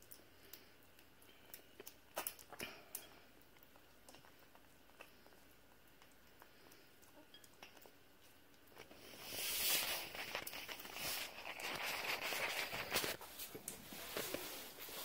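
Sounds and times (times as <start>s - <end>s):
kitten chewing and lapping: 0.0s - 14.5s.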